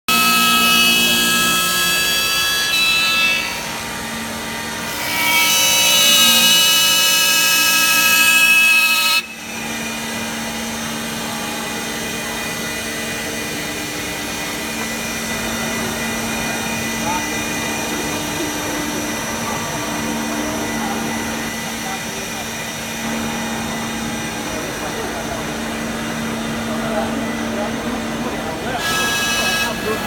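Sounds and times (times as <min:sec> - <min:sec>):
wood lathe machine whine: 0:00.1 - 0:30.0.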